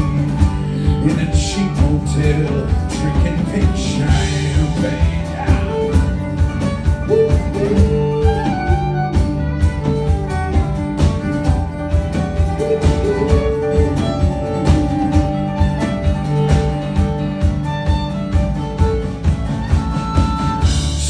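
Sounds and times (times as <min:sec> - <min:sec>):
live country-rock band playing: 0:00.0 - 0:21.0
steady drum beat: 0:00.0 - 0:21.0.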